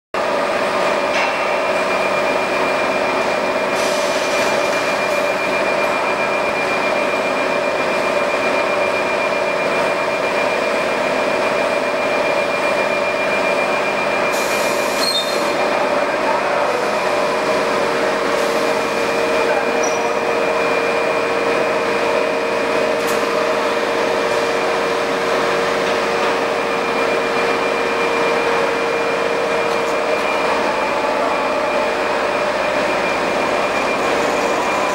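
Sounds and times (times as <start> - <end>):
constant mechanical whine: 0.2 - 34.9.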